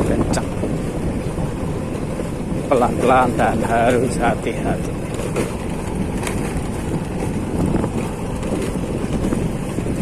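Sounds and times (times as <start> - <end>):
motorcycle running at low speed: 0.0 - 10.0
wind buffeting microphone: 0.0 - 10.0.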